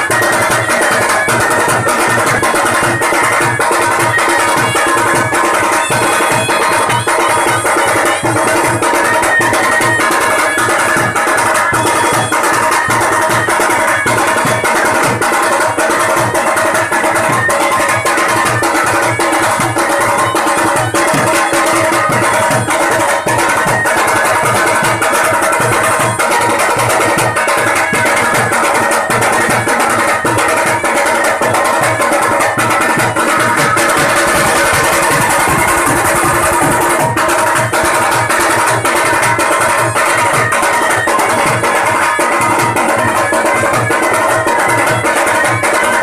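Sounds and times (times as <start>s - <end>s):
loud music with drums: 0.0s - 46.0s.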